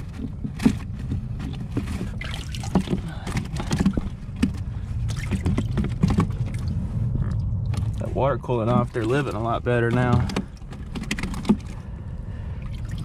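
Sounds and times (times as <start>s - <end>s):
steady low hum: 0.0s - 13.0s
water sloshing and splashing: 0.0s - 13.0s.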